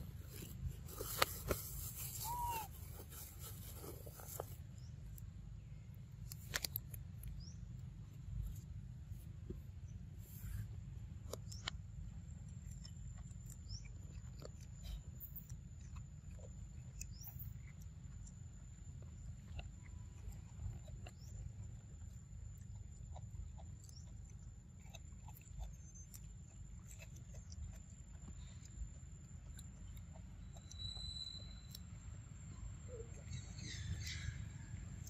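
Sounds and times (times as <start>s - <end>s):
monkey gnawing corn cob: 0.0s - 5.4s, 11.1s - 35.0s
low steady rumble: 0.0s - 35.0s.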